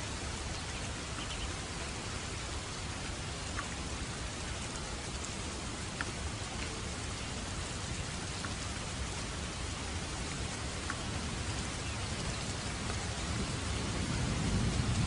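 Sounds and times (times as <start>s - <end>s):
distinct raindrops: 0.0s - 15.0s
steady rain: 0.0s - 15.0s.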